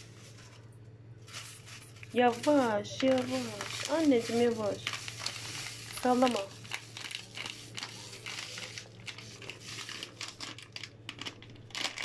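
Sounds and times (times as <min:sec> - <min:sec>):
paper packet crinkling: 0:00.0 - 0:12.0.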